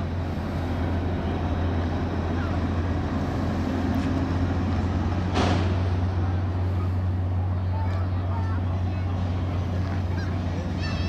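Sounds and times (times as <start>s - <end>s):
constant hum: 0.0s - 11.0s
low engine drone: 0.0s - 11.0s.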